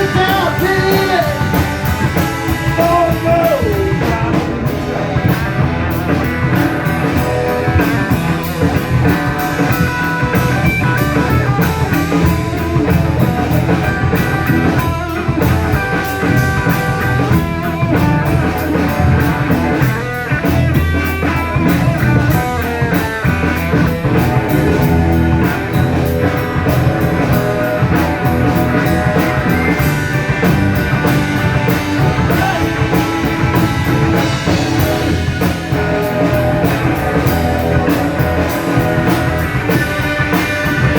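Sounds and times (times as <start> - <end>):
bass guitar: 0.0 - 40.9
drum kit beat: 0.0 - 40.9
electric guitar: 0.0 - 40.9.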